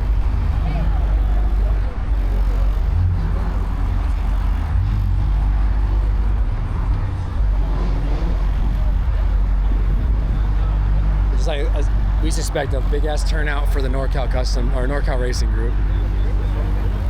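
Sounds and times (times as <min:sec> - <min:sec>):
car engines rumbling: 0:00.0 - 0:17.0.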